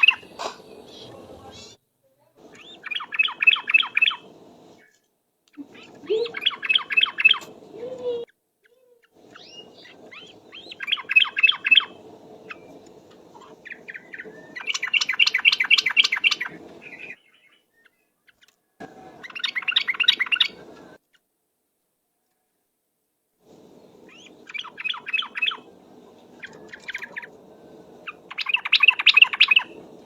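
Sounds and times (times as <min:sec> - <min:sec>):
bird chattering song: 0:00.0 - 0:01.7, 0:02.4 - 0:05.0, 0:05.6 - 0:18.5, 0:19.1 - 0:20.8, 0:23.7 - 0:29.9
low background hiss: 0:00.0 - 0:30.0.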